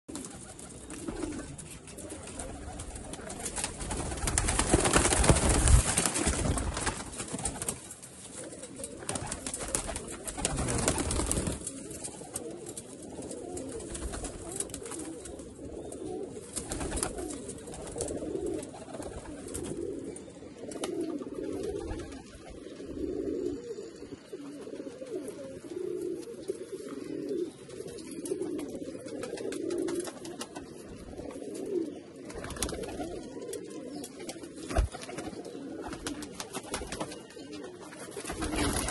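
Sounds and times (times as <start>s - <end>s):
pigeons cooing: 0.1s - 38.9s.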